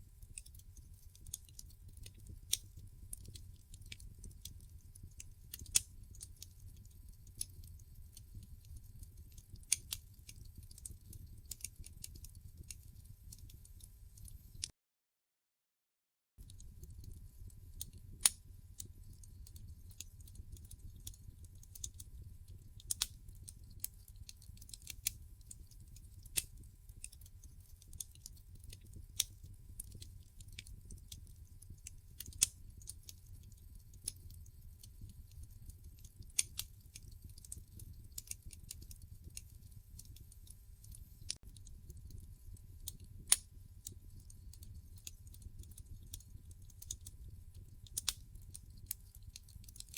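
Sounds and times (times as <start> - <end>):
wood fire crackling: 0.0 - 14.7, 16.4 - 49.9
low rumble of flames: 0.1 - 14.6, 16.4 - 49.9
burning logs popping: 0.2 - 13.6, 16.5 - 43.4, 47.6 - 48.9.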